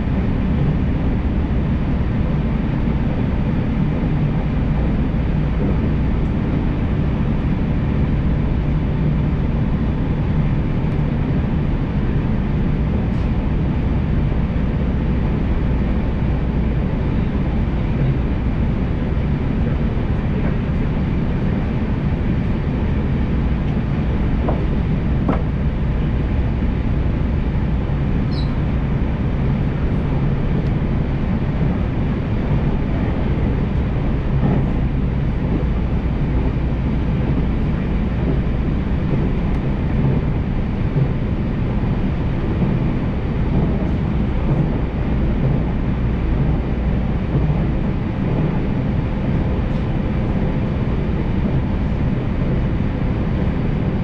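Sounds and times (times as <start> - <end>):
faint hum: 0.0 - 54.0
train wheels rumbling: 0.0 - 54.0.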